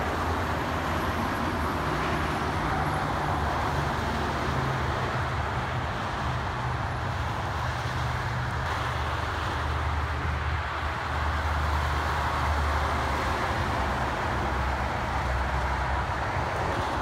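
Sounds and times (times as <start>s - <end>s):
diesel truck engine drone: 0.0s - 17.0s
tyre and road noise: 0.0s - 17.0s.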